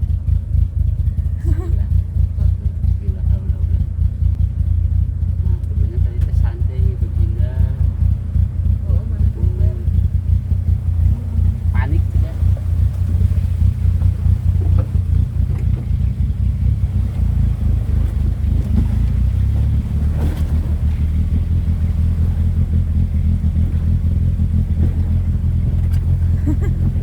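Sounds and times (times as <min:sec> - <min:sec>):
engine running low drone: 0:00.0 - 0:27.0.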